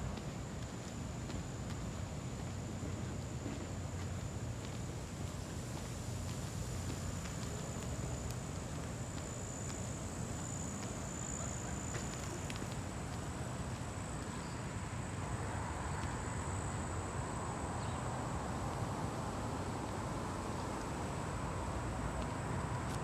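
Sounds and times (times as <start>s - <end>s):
insects chirring: 1.0s - 23.0s.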